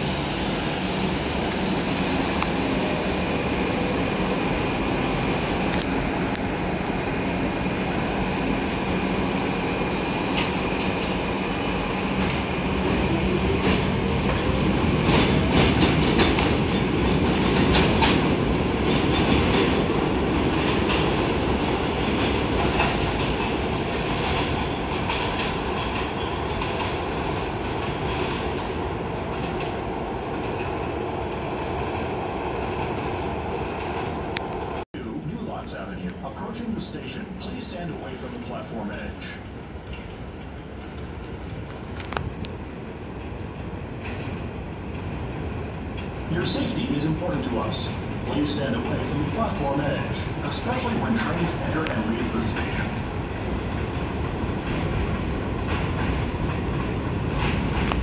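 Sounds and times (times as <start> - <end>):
subway train rumble: 0.0 - 58.0.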